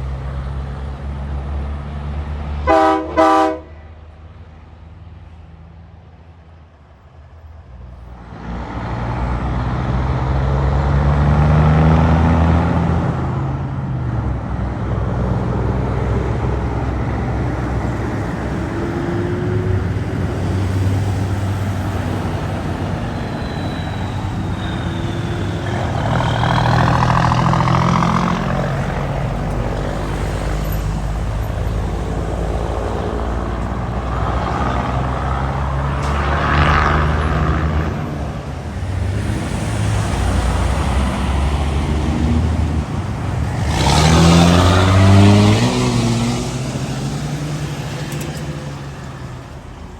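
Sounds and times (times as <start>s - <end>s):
steady traffic: 0.0s - 49.9s
trucks driving past: 0.0s - 49.9s.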